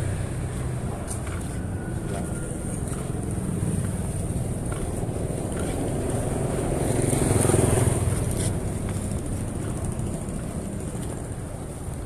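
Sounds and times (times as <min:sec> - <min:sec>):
vehicle engine passing by: 0:00.0 - 0:11.2.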